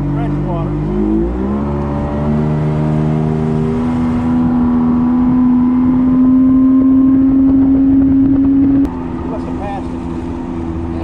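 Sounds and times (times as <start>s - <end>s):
outboard motor at high throttle: 0.0s - 11.0s.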